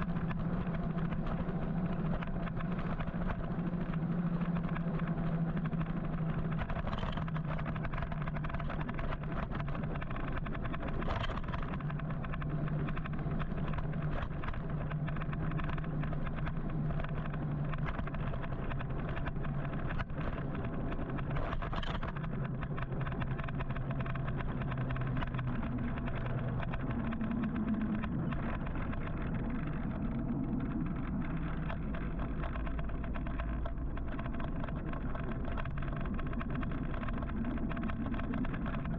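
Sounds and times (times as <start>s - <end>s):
low hum: 0.0s - 38.9s
traffic hum: 0.0s - 38.9s
tyre and wind rumble: 0.0s - 38.9s.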